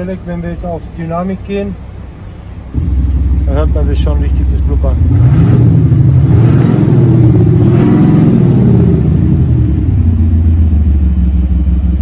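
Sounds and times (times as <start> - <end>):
car engine revving: 2.2 - 12.0.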